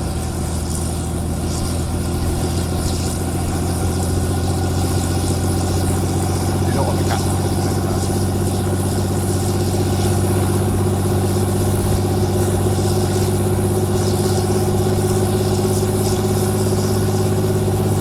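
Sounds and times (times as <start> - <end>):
aircraft engine humming: 0.0 - 18.0.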